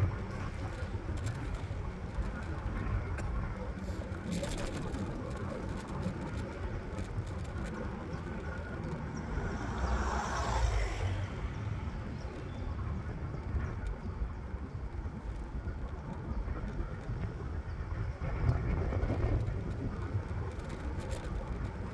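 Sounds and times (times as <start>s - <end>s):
scooter tyres rumbling on asphalt: 0.0s - 21.9s
wind on microphone: 0.0s - 21.9s.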